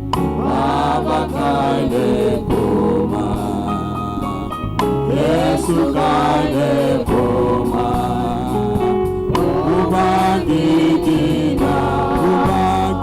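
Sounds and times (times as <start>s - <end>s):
instrumental accompaniment: 0.0s - 13.0s
voices singing gospel song: 0.0s - 13.0s.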